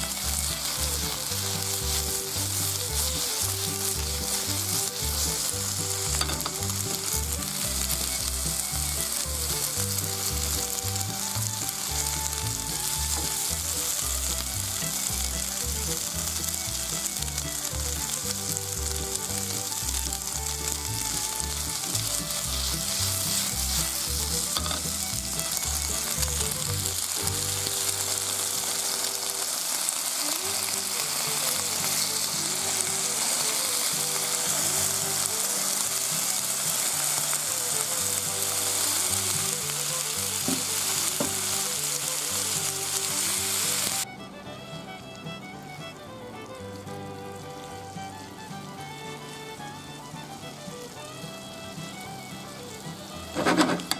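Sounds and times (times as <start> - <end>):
food sizzling in frying pan: 0.0 - 44.1, 45.3 - 53.9.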